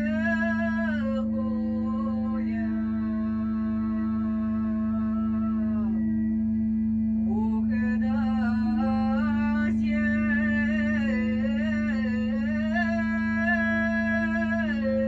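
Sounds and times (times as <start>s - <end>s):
woman singing wordless melody: 0.0s - 6.2s, 7.2s - 15.0s
low rumble: 0.0s - 15.0s
water pipe droning: 0.0s - 15.0s.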